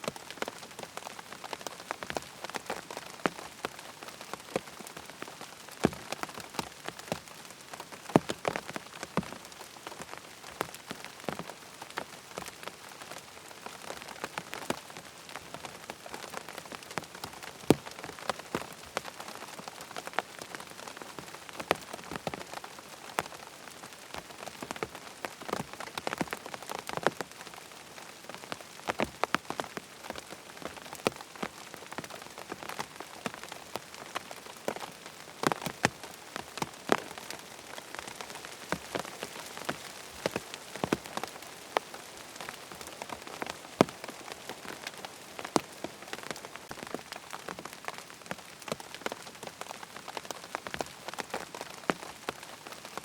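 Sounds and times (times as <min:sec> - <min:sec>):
rain hiss: 0:00.0 - 0:53.0
raindrops tapping on tent fabric: 0:00.0 - 0:53.0.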